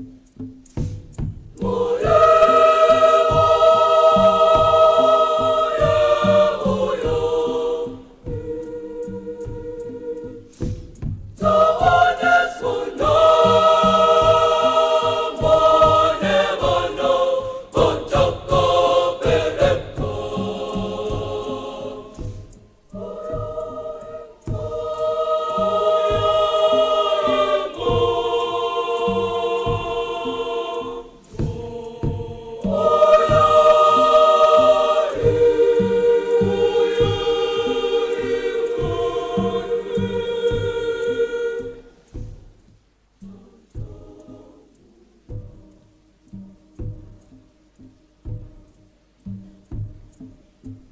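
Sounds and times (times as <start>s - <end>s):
girls' choir singing in harmony: 1.5s - 42.4s, 43.2s - 49.8s.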